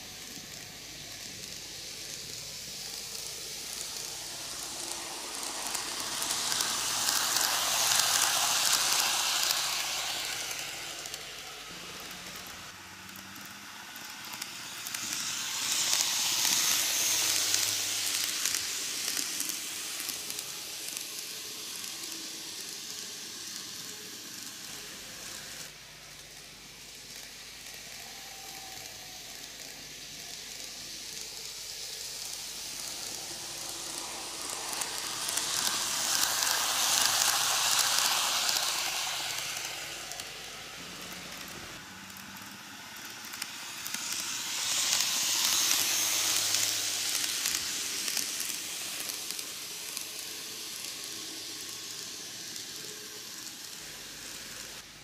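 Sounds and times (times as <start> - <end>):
model train whirring on rails: 0.0 - 55.0.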